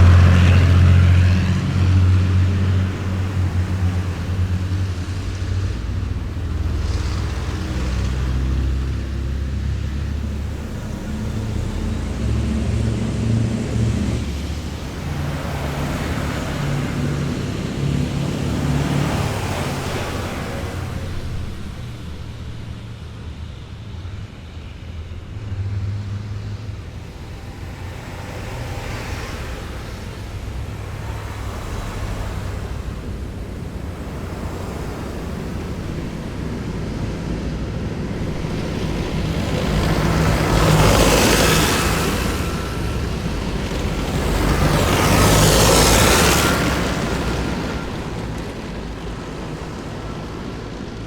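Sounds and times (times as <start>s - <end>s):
military vehicle engines rumbling: 0.0s - 51.0s.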